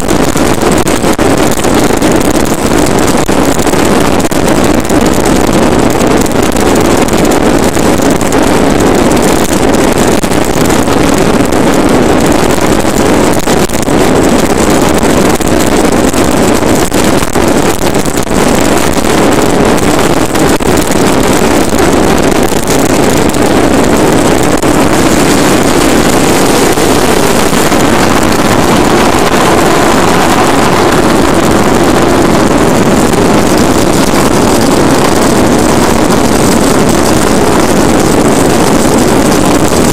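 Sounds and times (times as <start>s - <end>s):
toy wheels rumbling on asphalt: 0.0s - 39.9s
wind buffeting microphone: 0.0s - 39.9s.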